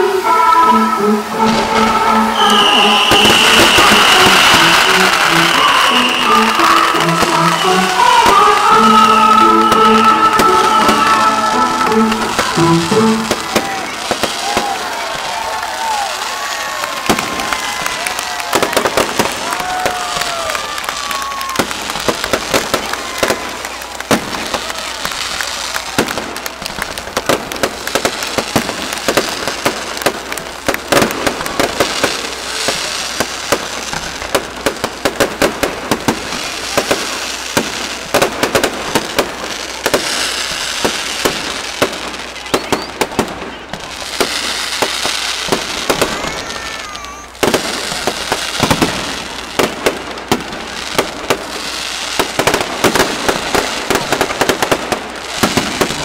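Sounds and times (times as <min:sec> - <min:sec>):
fireworks bangs and crackling: 0:00.0 - 0:56.0
hiss of burning fireworks: 0:00.0 - 0:56.0.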